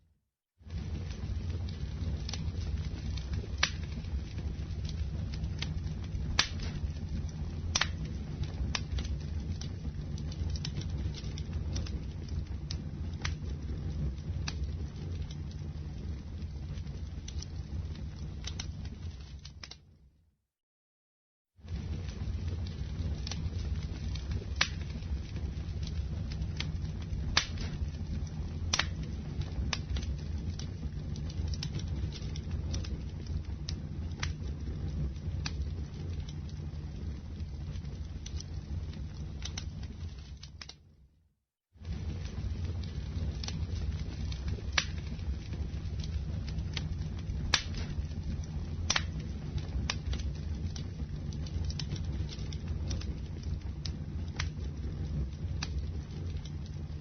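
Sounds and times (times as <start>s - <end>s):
campfire low rumble: 0.5s - 20.1s, 21.5s - 57.0s
wood popping and crackling: 0.6s - 19.9s, 21.6s - 40.8s, 41.8s - 57.0s.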